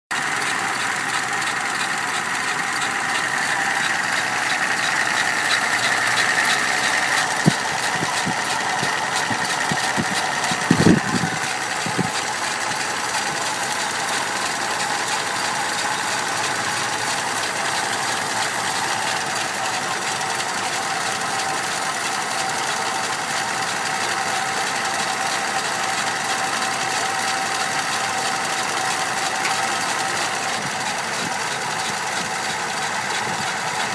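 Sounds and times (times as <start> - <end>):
engine knocks: 0.1 - 33.9
engine running with ticking: 0.1 - 33.9.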